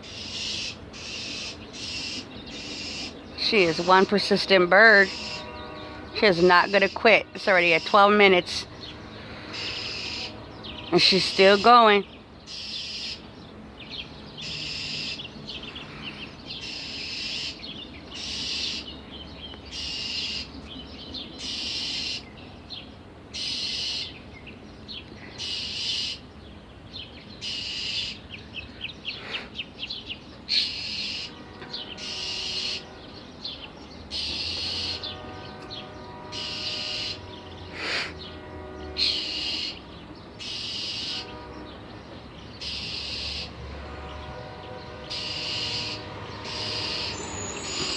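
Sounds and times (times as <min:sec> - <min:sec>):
bird harsh scolding alarm calls: 0:00.0 - 0:24.3, 0:25.2 - 0:26.3, 0:27.2 - 0:47.9.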